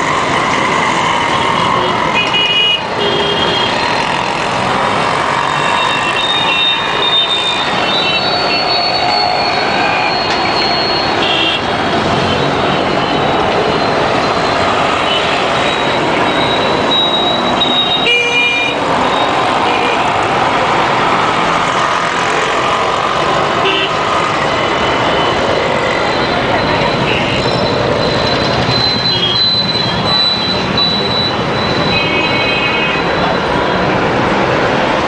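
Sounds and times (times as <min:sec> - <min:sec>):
dense city traffic: 0:00.0 - 0:35.0.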